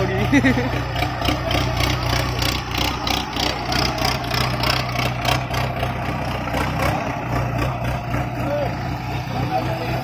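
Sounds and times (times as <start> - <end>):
tractor diesel engines running: 0.0 - 10.0.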